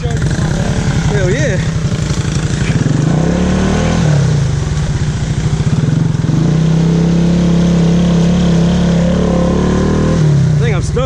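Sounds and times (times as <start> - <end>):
quad bike engine revving: 0.0 - 11.0.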